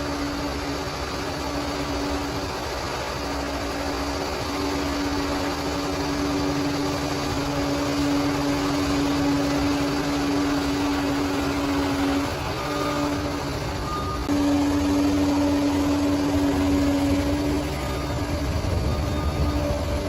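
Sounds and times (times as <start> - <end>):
bulldozer diesel engine running: 0.0 - 20.0
steady whine: 0.0 - 20.0.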